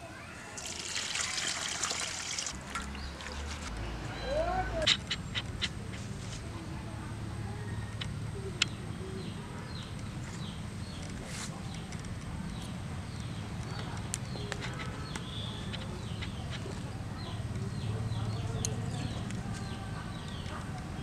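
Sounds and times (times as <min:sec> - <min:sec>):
small birds chirping: 0:02.8 - 0:21.0.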